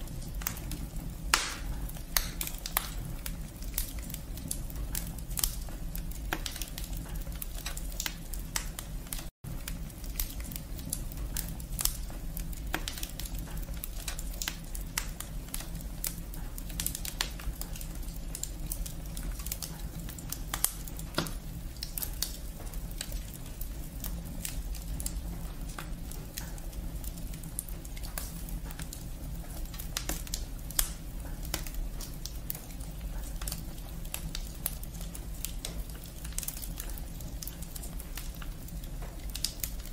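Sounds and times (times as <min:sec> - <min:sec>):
fire low rumble: 0:00.0 - 0:39.9
fire popping: 0:00.0 - 0:39.9
firewood crackling: 0:00.0 - 0:39.9.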